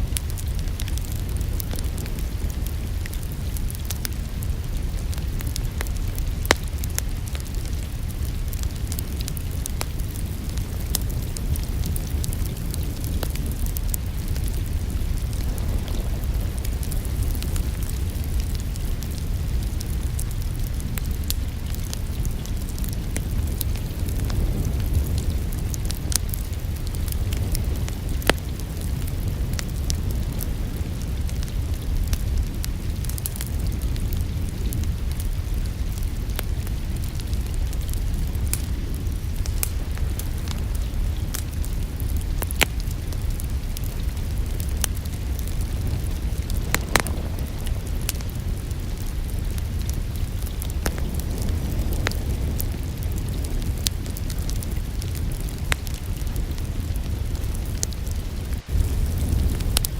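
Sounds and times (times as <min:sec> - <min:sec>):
low rumble of fire: 0:00.0 - 0:59.9
wood fire pops and snaps: 0:00.0 - 0:59.9.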